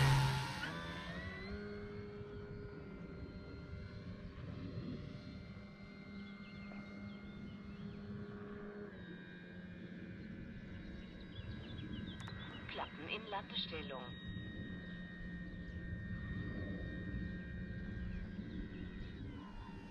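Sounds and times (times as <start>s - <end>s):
model airplane motor whine: 0.0s - 12.9s, 14.1s - 19.9s.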